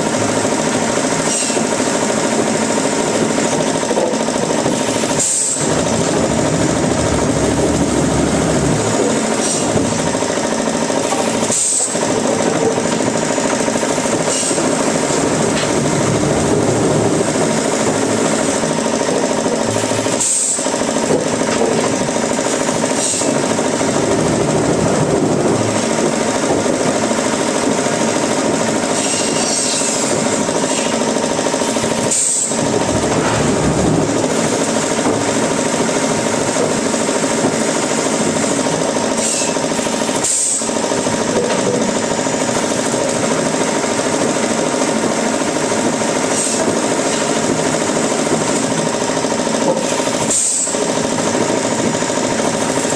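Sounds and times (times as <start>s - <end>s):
wood-processing machinery running: 0.0s - 52.9s.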